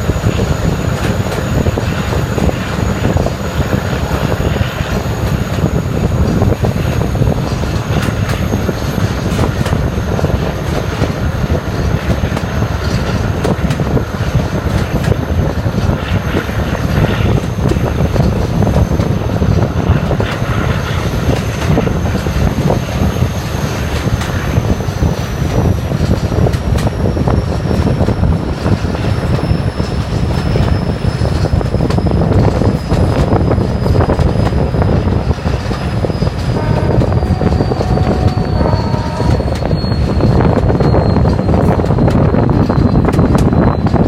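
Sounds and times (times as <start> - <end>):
thin high whine: 0.0 - 44.0
train rumble on board: 0.0 - 44.0
wheels clicking on track: 0.0 - 44.0.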